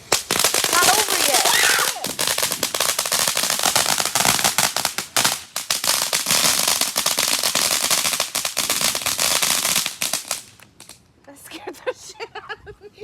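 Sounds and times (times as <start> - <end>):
firework crackling pops: 0.0 - 11.1.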